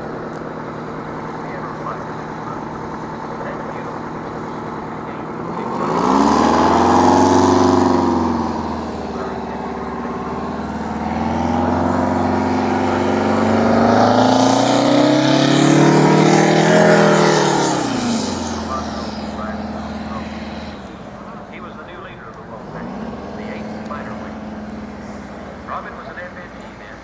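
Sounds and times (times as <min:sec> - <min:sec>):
loud engine revving: 0:00.0 - 0:27.0.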